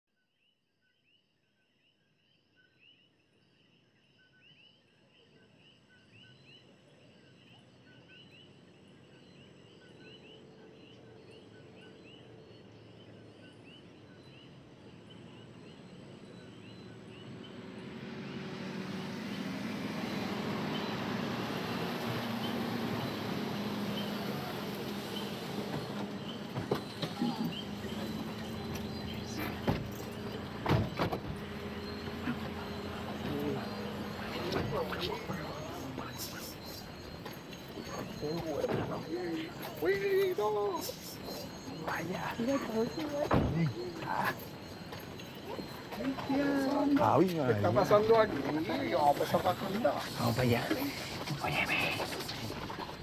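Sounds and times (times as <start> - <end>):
insects chirping: 0.4 - 53.0
car approaching: 7.4 - 53.0.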